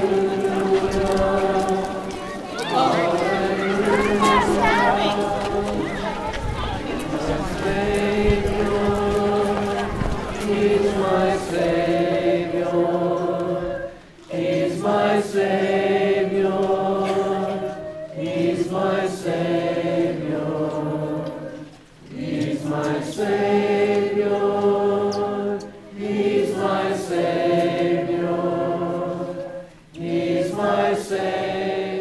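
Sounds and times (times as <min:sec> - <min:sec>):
group singing a hymn: 0:00.0 - 0:32.0.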